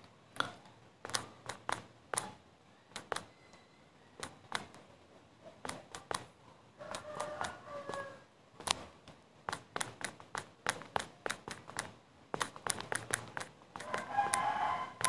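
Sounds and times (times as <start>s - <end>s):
fingers typing on touchscreen: 0.4s - 3.6s, 4.2s - 4.8s, 5.6s - 15.0s.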